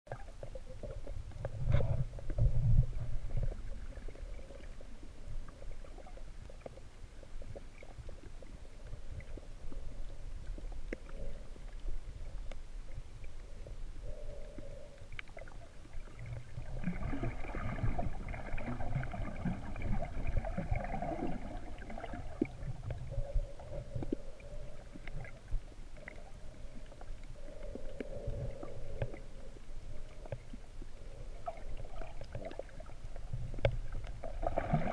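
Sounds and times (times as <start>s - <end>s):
underwater rumble of moving water: 0.1s - 34.9s.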